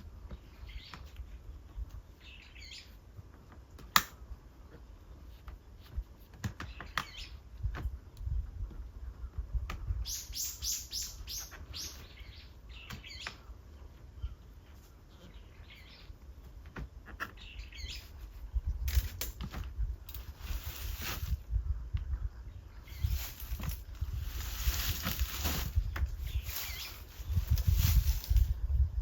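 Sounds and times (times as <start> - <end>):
birds chirping: 0.0 - 3.5, 6.4 - 19.2, 21.5 - 29.0.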